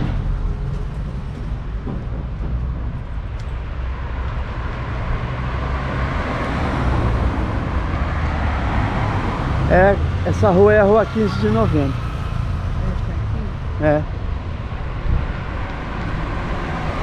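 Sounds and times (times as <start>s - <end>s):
car engine hum: 0.0s - 17.0s.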